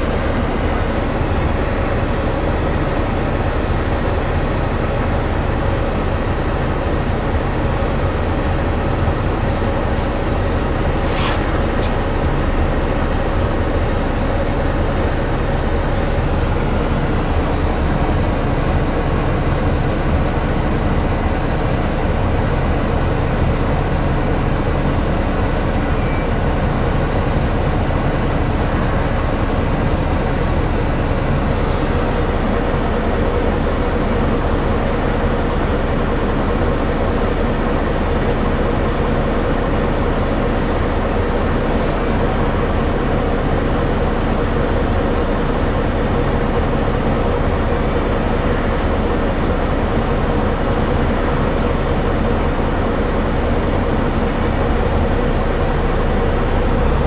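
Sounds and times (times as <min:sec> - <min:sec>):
diesel bus engine: 0:00.0 - 0:57.0
road noise: 0:00.0 - 0:57.0.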